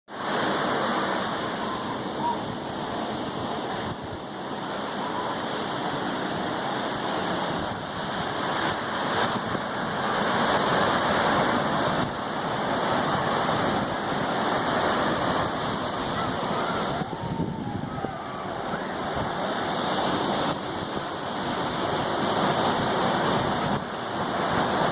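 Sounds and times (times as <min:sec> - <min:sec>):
waves breaking: 0:00.1 - 0:24.9.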